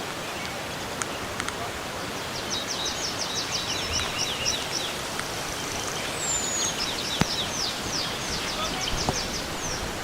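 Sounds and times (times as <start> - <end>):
forest ambience hiss: 0.0 - 10.0.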